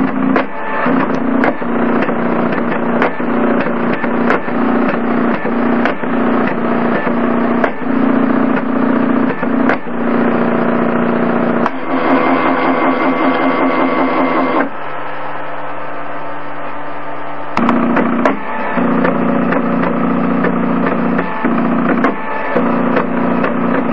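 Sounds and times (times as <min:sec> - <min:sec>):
stepper motors whining: 0:00.0 - 0:23.9.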